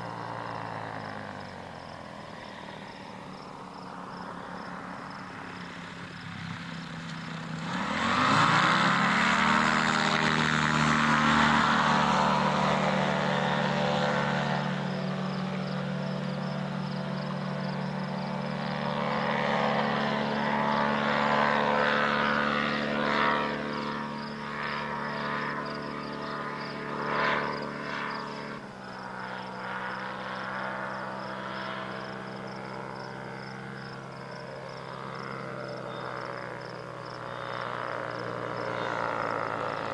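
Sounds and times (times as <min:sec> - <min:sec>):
ultralight airplane engine: 0:00.0 - 0:39.9.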